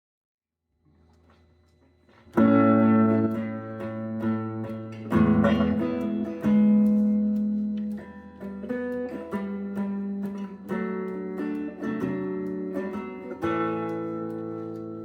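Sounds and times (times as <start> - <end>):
acoustic guitar picking chords: 2.1 - 15.0.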